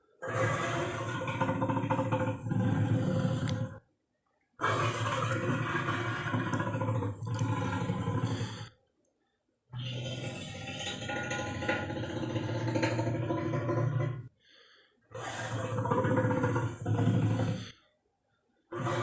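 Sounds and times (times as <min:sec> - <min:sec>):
deep drawn-out dinosaur roars: 0:00.2 - 0:03.9, 0:04.6 - 0:08.8, 0:09.7 - 0:14.3, 0:15.1 - 0:17.8, 0:18.7 - 0:19.0.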